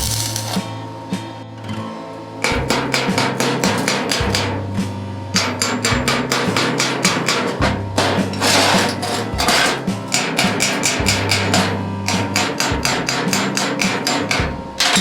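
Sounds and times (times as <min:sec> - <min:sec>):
background music with bass line: 0:00.0 - 0:15.0
rapid hammer blows on metal: 0:02.4 - 0:15.0.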